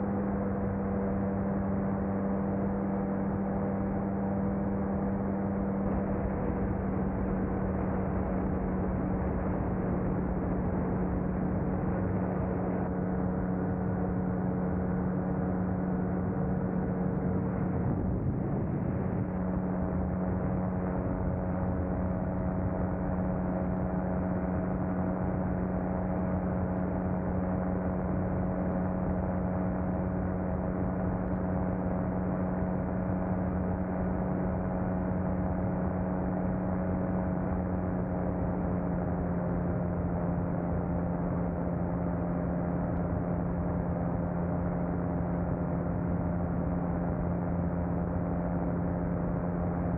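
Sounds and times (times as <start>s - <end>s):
light aircraft engine droning: 0.0s - 49.9s.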